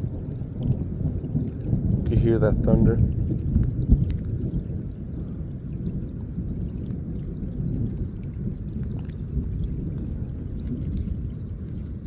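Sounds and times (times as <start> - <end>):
faint ticks of rain: 0.0 - 12.0
thunder rumbling: 0.0 - 12.0.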